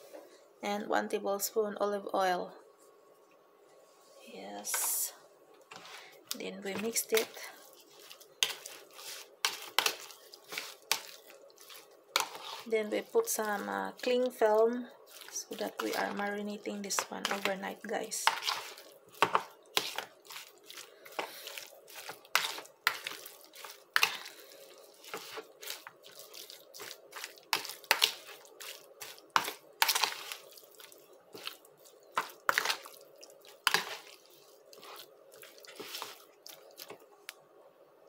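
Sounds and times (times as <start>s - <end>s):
faint steady hum: 0.0s - 38.0s
wet squelches of stirred meat: 4.7s - 37.4s.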